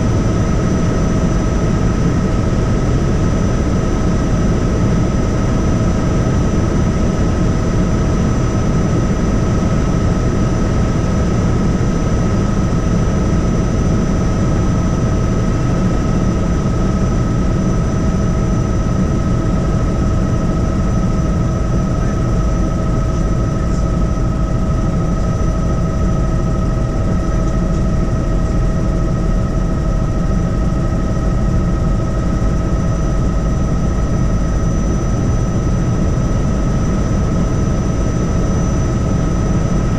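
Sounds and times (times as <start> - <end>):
helicopter rotor and engine noise: 0.0 - 39.9
high-pitched whine: 0.0 - 39.9.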